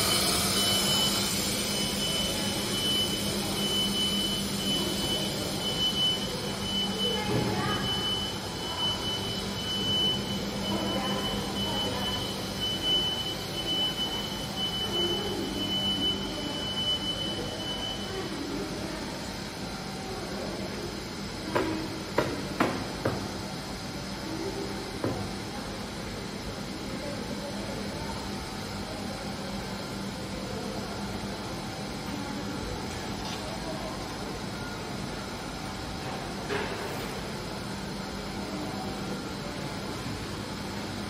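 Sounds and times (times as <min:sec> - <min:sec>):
high-pitched machine whine: 0:00.0 - 0:41.0
machinery mechanical hum: 0:00.0 - 0:41.0.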